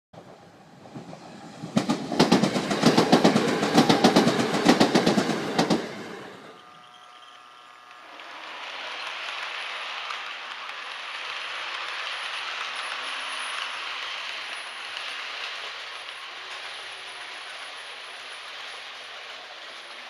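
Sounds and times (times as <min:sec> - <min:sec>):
model trains rattling on track: 0:00.2 - 0:20.0.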